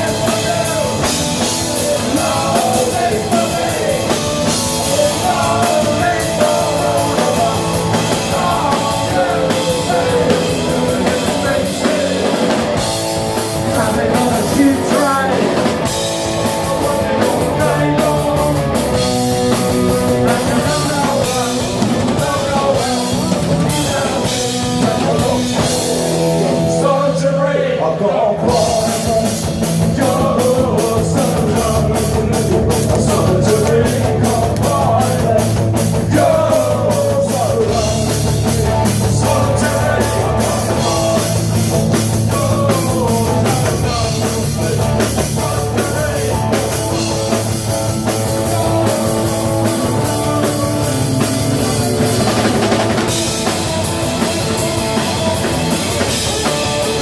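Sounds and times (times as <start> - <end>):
drum kit: 0.0 - 27.0, 28.4 - 57.0
bass guitar: 0.0 - 57.0
electric guitars: 0.0 - 57.0.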